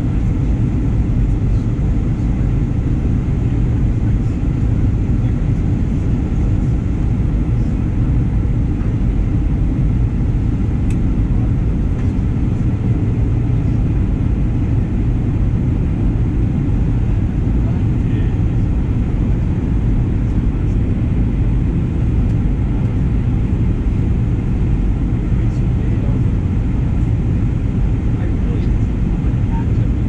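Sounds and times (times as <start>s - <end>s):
airliner cabin engine rumble: 0.0s - 30.0s.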